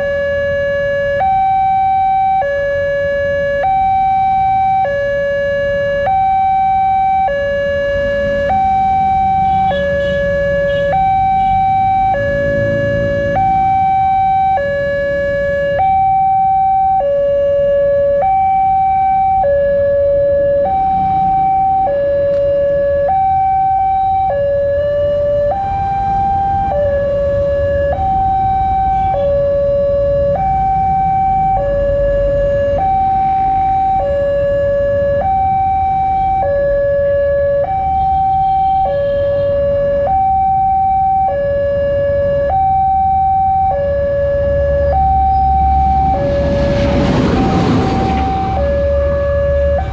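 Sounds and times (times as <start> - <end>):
level crossing warning alarm: 0.0 - 49.9.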